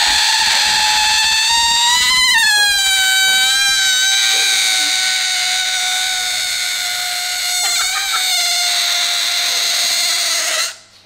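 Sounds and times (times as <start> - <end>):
air squealing from balloon neck: 0.0 - 10.9.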